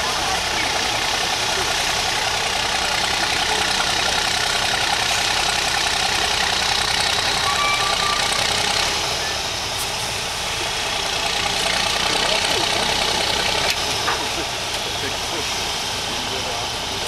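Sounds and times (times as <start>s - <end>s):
diesel truck engine at low revs: 0.0s - 17.0s.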